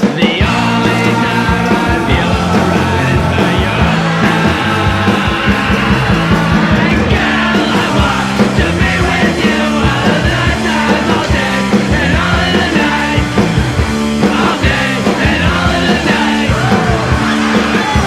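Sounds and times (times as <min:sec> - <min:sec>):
punk rock band playing: 0:00.0 - 0:18.0.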